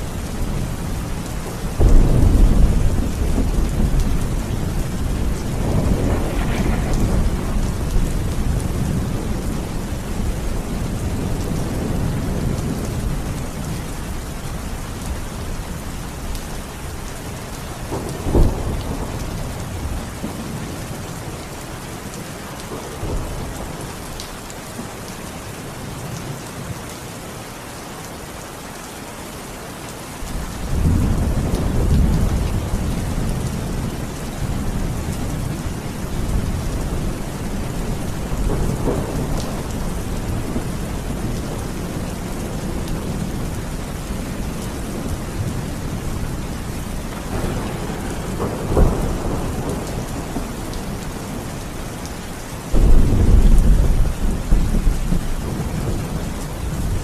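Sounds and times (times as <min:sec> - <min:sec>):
thunder rumbling and cracking: 0:00.0 - 0:16.4, 0:17.7 - 0:21.1, 0:30.2 - 0:57.0
heavy rain: 0:00.0 - 0:57.0.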